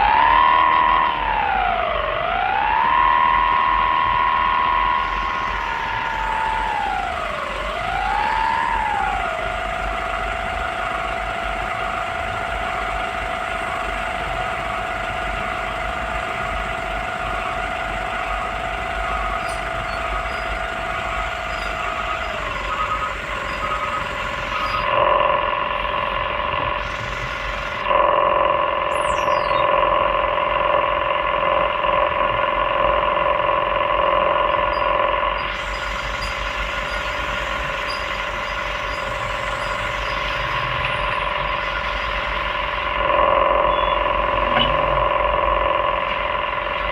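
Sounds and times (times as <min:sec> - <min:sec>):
excavator engine and hydraulic whine: 0:00.0 - 0:46.9.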